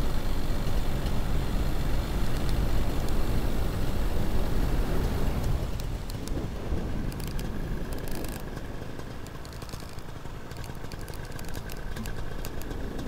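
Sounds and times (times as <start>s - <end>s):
paramotor engine drone: 0.0s - 13.0s
wind rumble on microphone: 0.0s - 13.0s.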